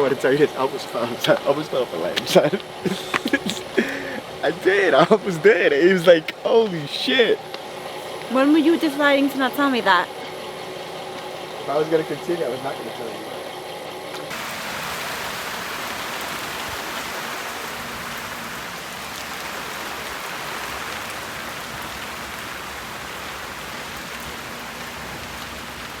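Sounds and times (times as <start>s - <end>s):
rain drop ticks: 0.0s - 12.1s, 14.1s - 26.0s
steady rain hiss: 0.0s - 26.0s.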